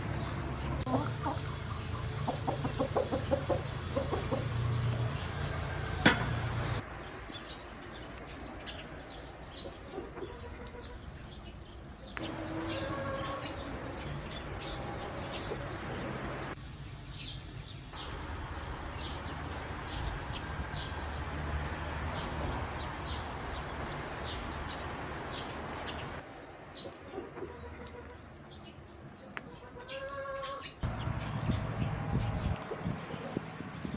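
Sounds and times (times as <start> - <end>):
small birds chirping: 0.0 - 5.4, 6.6 - 33.9
outdoor background noise: 0.0 - 33.9.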